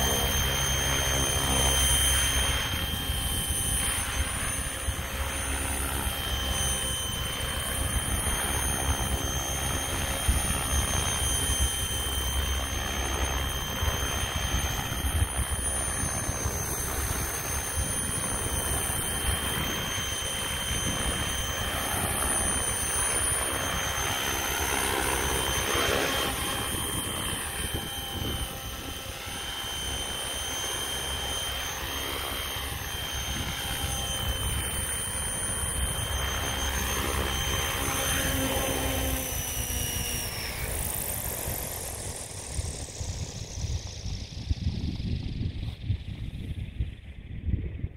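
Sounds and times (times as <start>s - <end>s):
electric motor whine: 0.0s - 47.2s
rotor blades whirring: 0.0s - 47.2s.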